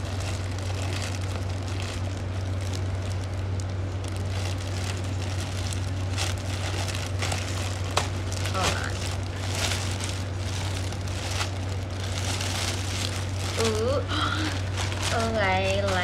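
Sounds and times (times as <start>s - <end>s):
plastic bag rustling and crinkling: 0.0s - 16.0s
steady low hum: 0.0s - 16.0s.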